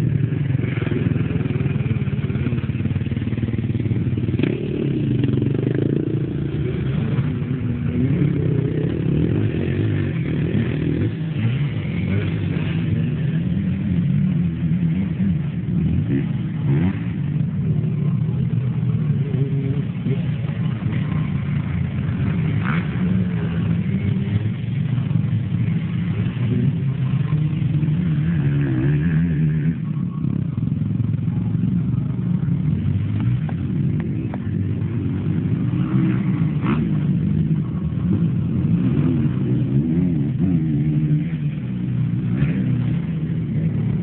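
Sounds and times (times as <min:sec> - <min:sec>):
quad engines revving: 0:00.0 - 0:44.0.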